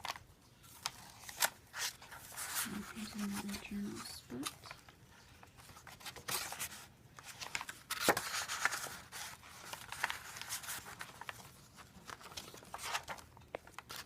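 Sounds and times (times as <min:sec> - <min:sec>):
paper pages rustling and crinkling: 0:00.0 - 0:14.0.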